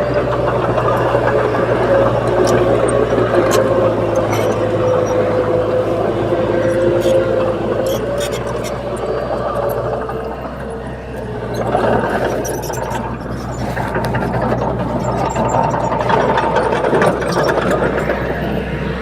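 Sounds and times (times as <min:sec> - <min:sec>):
bulldozer diesel engine running: 0:00.0 - 0:19.0
metallic clanking and rattling: 0:00.0 - 0:19.0.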